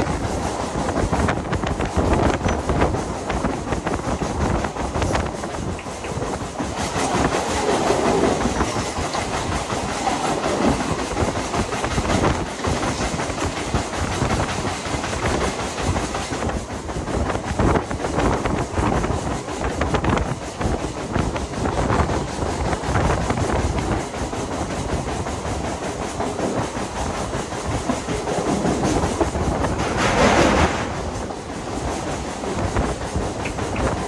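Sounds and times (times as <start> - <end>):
train rushing past: 0.0 - 34.0
train wheels clattering over rail joints: 0.0 - 34.0.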